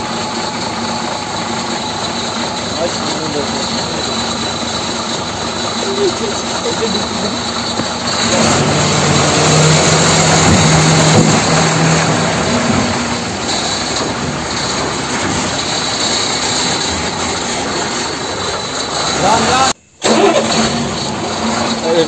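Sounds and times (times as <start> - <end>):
engine-like running hum: 0.0 - 22.0.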